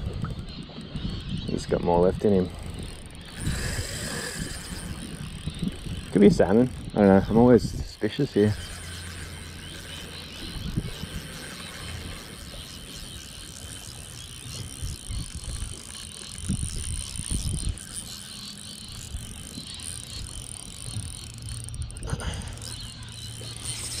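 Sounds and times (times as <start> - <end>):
fishing reel ticking: 0.0 - 24.0.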